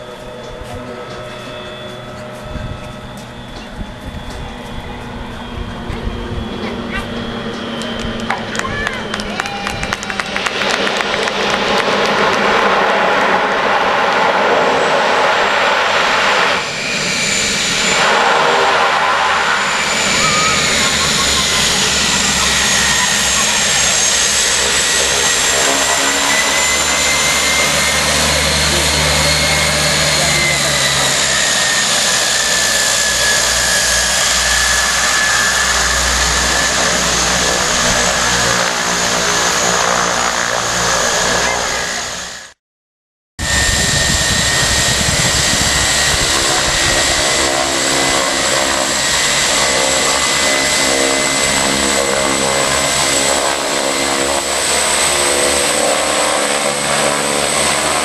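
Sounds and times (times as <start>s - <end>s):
aircraft engines with turbine whine: 0.0s - 42.6s, 43.4s - 58.0s.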